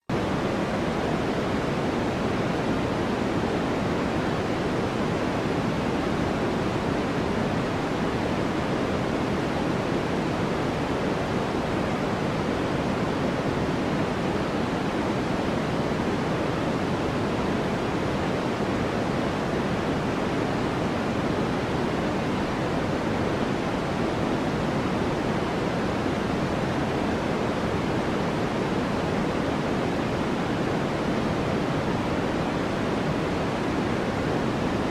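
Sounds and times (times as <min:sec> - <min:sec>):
steady white noise hiss: 0:00.0 - 0:34.9.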